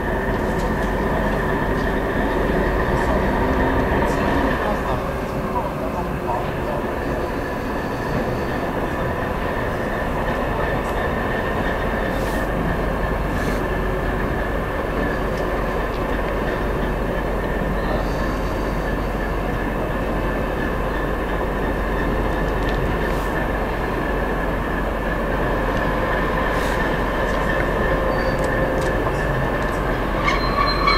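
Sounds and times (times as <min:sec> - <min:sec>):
constant whine: 0:00.0 - 0:30.9
diesel locomotive engine drone: 0:00.0 - 0:30.9.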